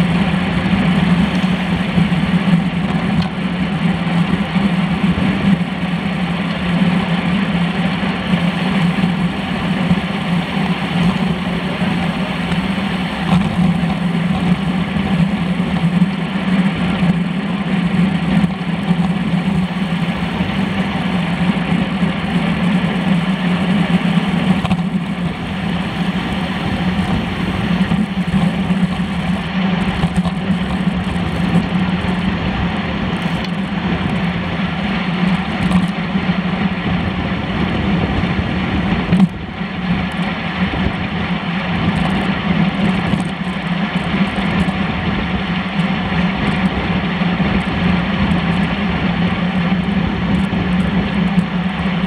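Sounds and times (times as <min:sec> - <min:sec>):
bike tyres rolling on asphalt: 0:00.0 - 0:52.0
wind rush on microphone: 0:00.0 - 0:52.0.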